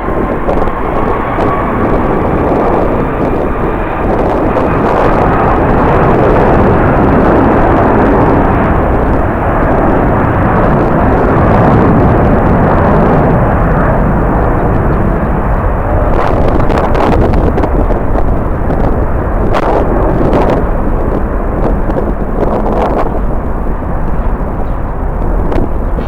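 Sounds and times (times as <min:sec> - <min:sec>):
jet engine noise: 0:00.0 - 0:26.0
wind rumbling on microphone: 0:00.0 - 0:26.0.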